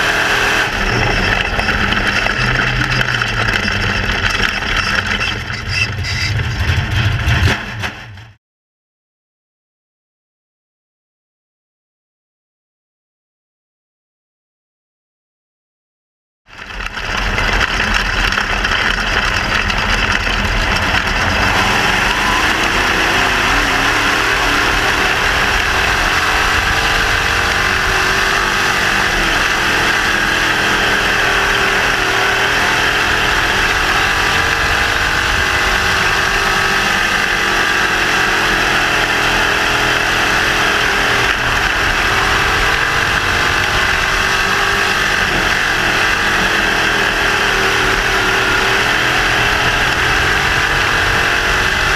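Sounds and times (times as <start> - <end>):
race car engine running: 0.0 - 8.4, 16.5 - 51.9.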